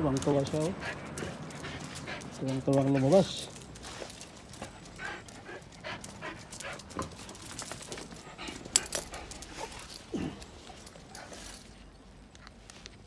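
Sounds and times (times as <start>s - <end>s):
small rustles and clicks: 0.0s - 13.0s
dog panting: 0.1s - 11.8s.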